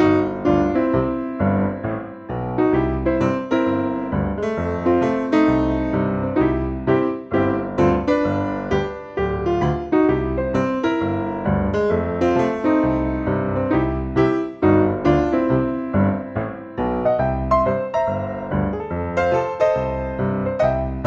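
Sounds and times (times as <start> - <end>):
upbeat piano tune: 0.0 - 21.0.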